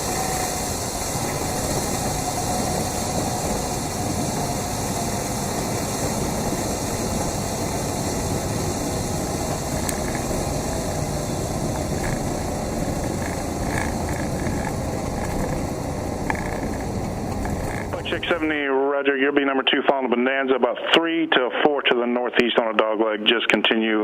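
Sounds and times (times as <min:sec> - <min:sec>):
propeller plane engine drone: 0:00.0 - 0:19.9.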